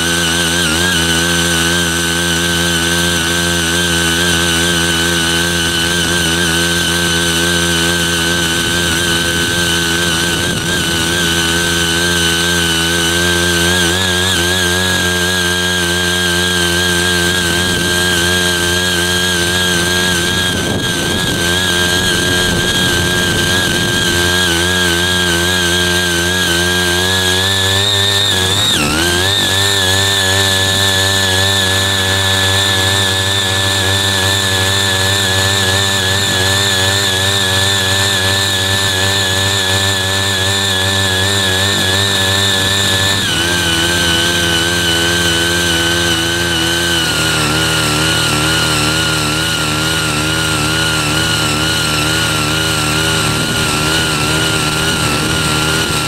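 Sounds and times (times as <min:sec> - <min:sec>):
mini tiller engines running: 0:00.0 - 0:56.0
tines churning soil: 0:00.0 - 0:56.0.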